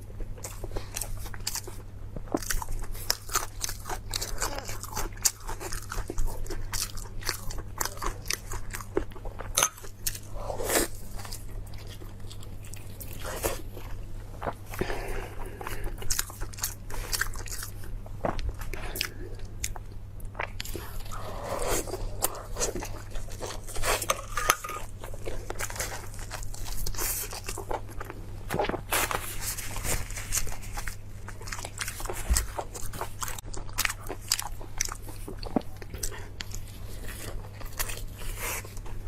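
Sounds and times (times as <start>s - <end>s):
low steady hum: 0.0s - 39.0s
person chewing crunchy food: 0.0s - 39.0s.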